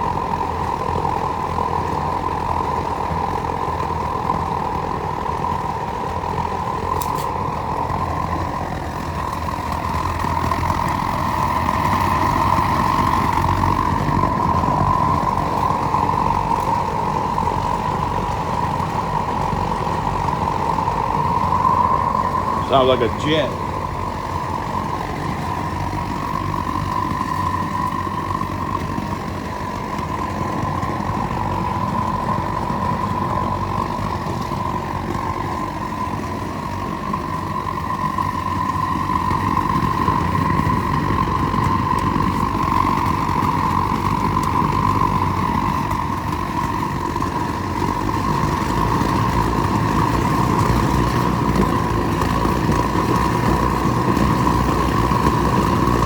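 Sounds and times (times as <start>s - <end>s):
gas forge burners roaring: 0.0s - 56.0s.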